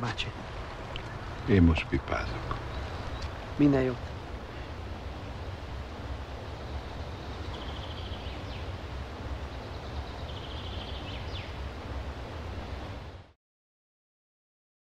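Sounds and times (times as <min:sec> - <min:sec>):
low rumble: 0:00.2 - 0:13.3.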